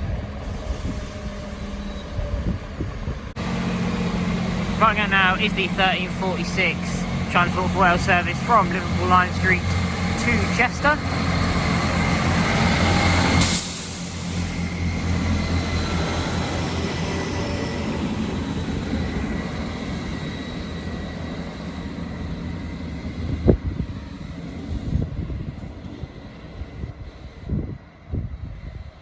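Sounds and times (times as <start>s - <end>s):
diesel train engine humming: 0.0s - 27.5s.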